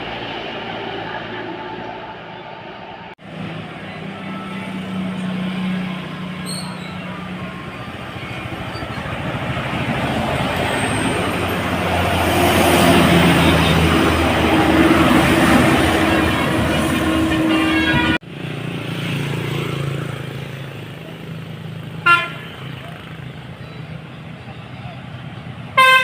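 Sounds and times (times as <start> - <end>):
heavy vehicle passing: 0.0 - 25.8.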